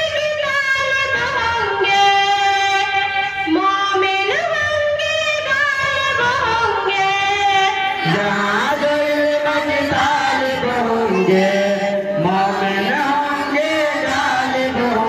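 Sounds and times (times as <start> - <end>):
children singing into microphones: 0.0 - 15.0.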